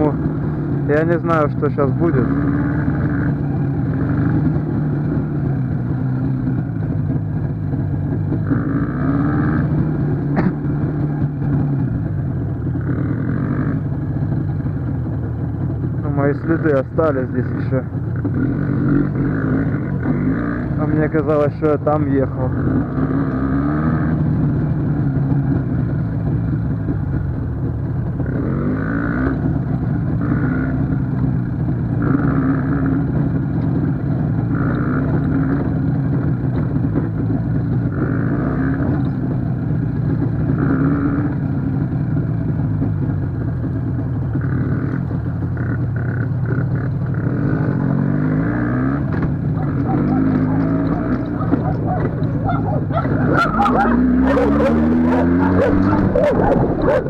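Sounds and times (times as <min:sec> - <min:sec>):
two-stroke motorcycle engine: 0:00.0 - 0:57.0.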